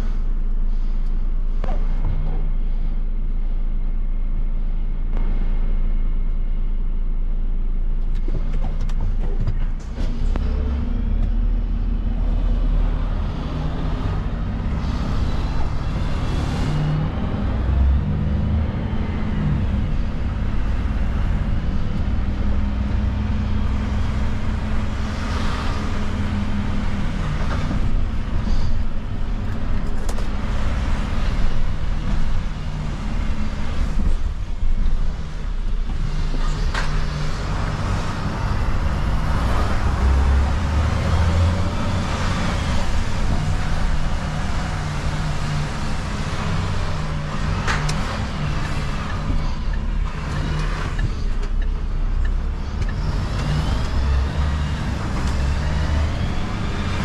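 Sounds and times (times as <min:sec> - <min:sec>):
diesel truck engine from cab: 0:00.0 - 0:57.0.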